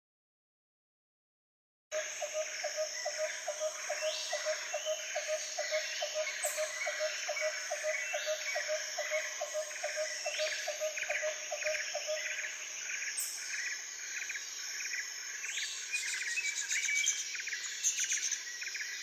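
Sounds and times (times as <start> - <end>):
bird-like chirps: 1.9 - 19.0.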